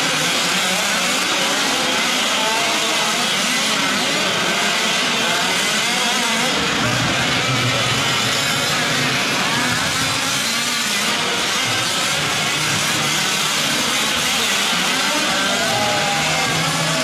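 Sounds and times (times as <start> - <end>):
rc truck engines revving: 0.0 - 17.0.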